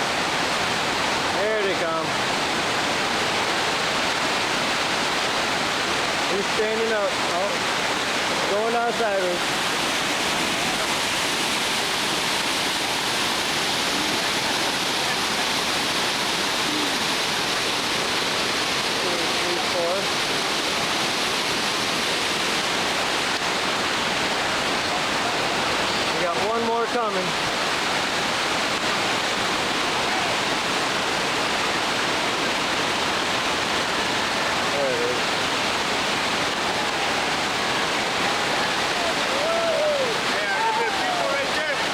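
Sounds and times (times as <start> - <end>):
whitewater rapids rushing: 0.0 - 41.9.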